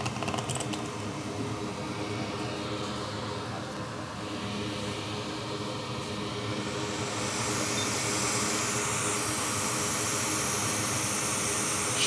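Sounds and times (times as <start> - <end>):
fan air rushing: 0.0 - 12.0.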